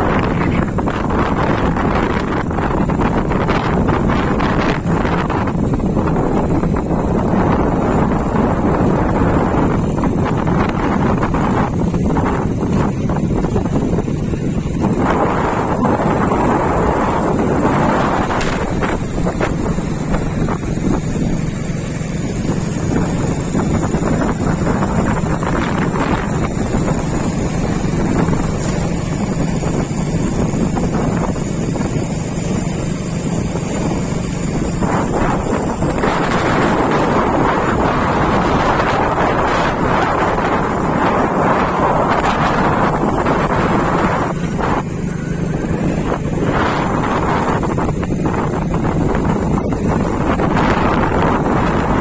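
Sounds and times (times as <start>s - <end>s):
low engine hum: 0.0s - 52.0s
wind on microphone: 0.0s - 52.0s.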